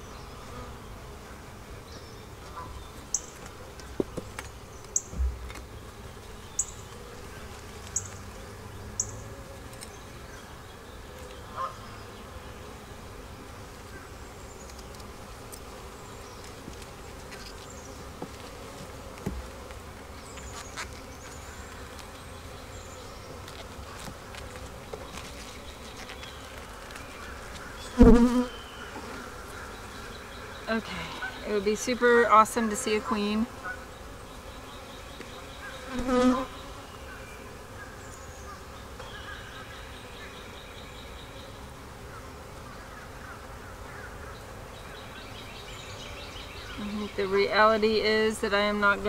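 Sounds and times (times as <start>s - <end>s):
bees buzzing: 0.0s - 49.0s.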